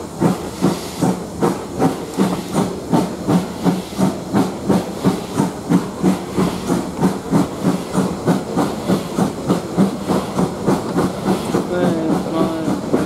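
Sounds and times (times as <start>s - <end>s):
hiss of steam: 0.0s - 13.0s
steam locomotive exhaust chuffs: 0.0s - 13.0s.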